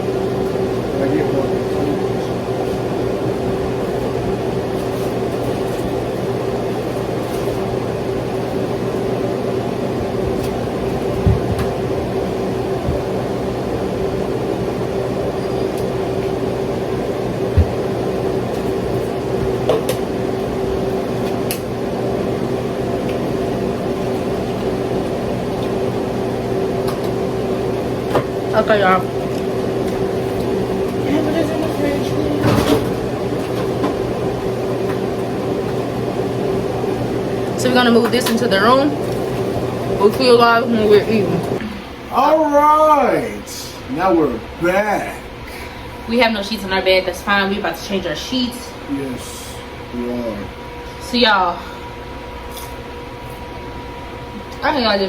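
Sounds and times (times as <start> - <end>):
appliance motor and fan humming: 0.0 - 55.0.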